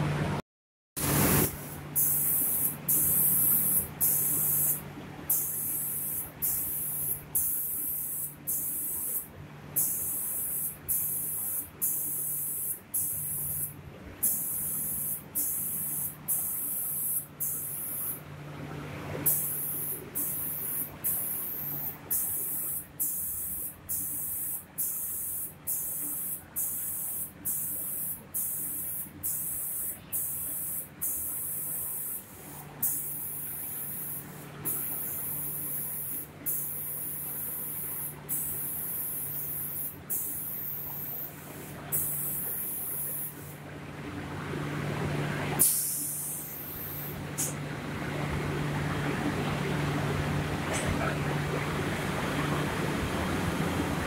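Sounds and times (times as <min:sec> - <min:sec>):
low machine hum: 0:00.0 - 0:00.4, 0:01.0 - 0:54.0
spray gun hissing in bursts: 0:01.0 - 0:18.2, 0:19.2 - 0:43.6, 0:45.6 - 0:47.6.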